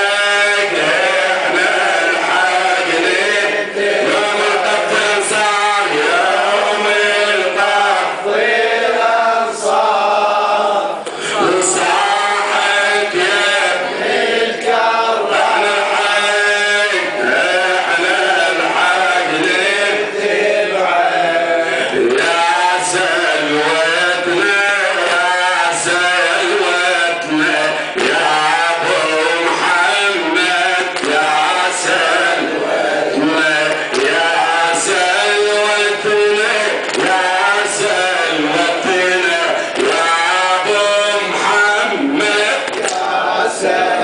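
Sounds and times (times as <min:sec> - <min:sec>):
man chanting into microphone: 0:00.0 - 0:44.0
men chanting in unison: 0:00.0 - 0:44.0.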